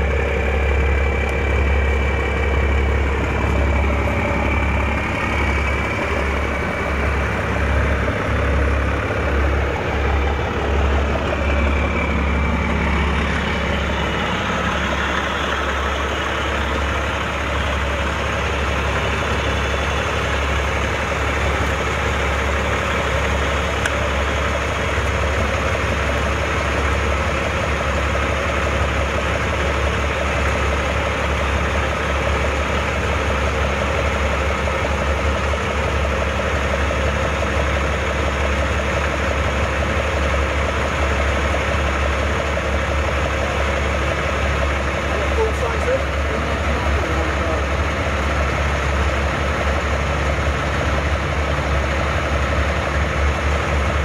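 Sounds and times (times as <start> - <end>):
heavy vehicle engines idling: 0.0 - 54.0.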